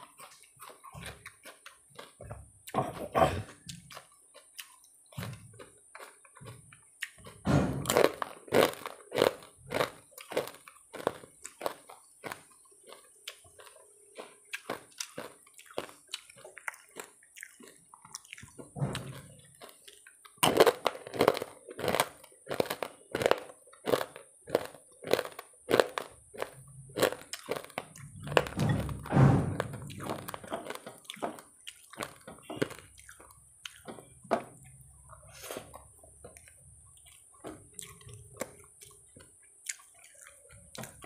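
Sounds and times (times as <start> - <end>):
person chewing wetly: 0.0 - 41.0.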